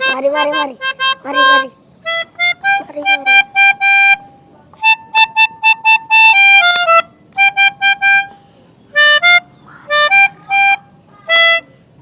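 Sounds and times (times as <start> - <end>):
melodica playing staccato tune: 0.0 - 11.8.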